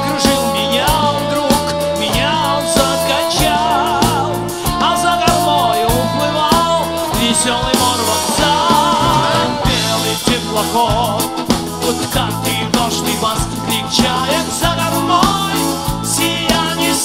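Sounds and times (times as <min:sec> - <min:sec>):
bass: 0:00.0 - 0:17.0
person singing: 0:00.0 - 0:17.0
pop band playing: 0:00.0 - 0:17.0
steady drum beat: 0:00.0 - 0:17.0.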